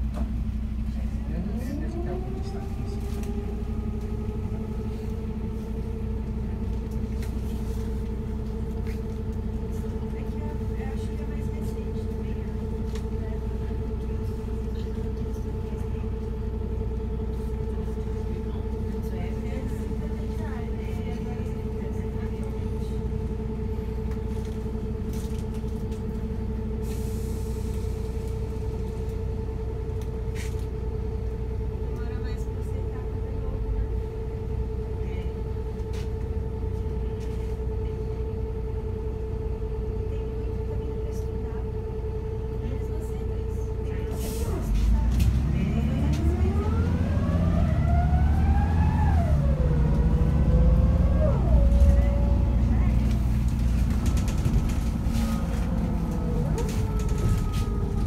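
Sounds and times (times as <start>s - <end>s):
bus drivetrain whine: 0.0s - 58.0s
engine and road rumble: 0.0s - 58.0s.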